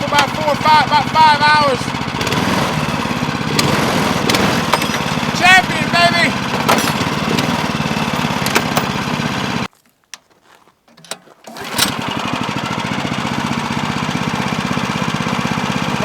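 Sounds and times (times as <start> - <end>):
engine running at fast idle: 0.0 - 9.7, 11.5 - 16.0.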